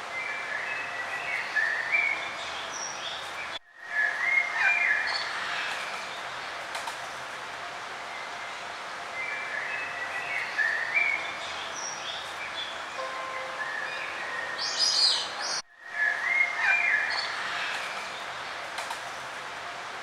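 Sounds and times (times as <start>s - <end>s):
songbirds chirping: 0.0s - 6.8s, 7.9s - 20.0s
steady background hiss: 0.0s - 20.0s.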